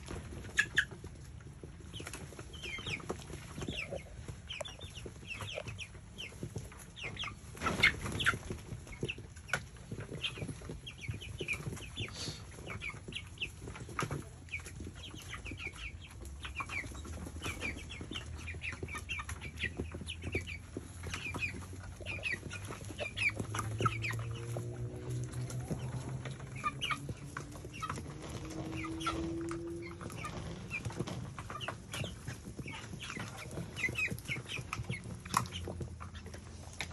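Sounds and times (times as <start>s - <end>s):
chicks peeping and chirping: 0.0s - 36.9s.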